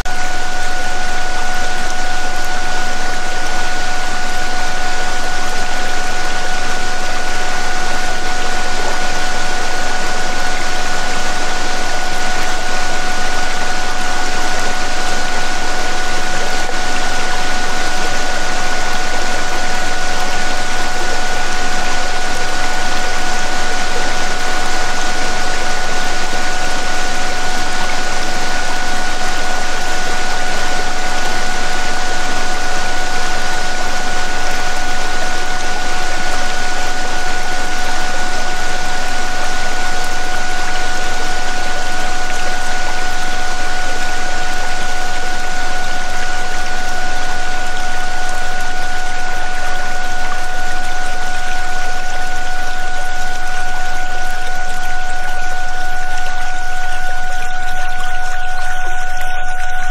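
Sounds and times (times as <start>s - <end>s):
low steady drone: 0.1s - 59.9s.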